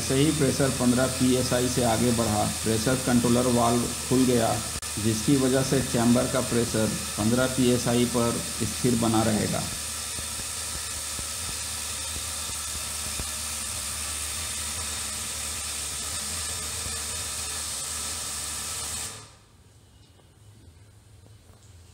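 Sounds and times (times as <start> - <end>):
steam hissing from valve: 0.0 - 19.4.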